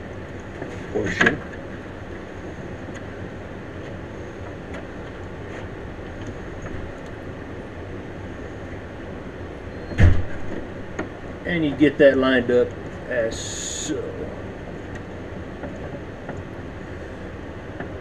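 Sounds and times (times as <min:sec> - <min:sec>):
rumbling background noise: 0:00.0 - 0:18.0.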